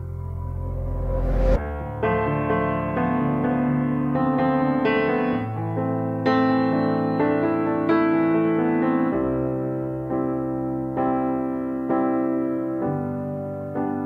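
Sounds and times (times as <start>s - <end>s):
piano playing gentle chords: 0.0s - 14.0s.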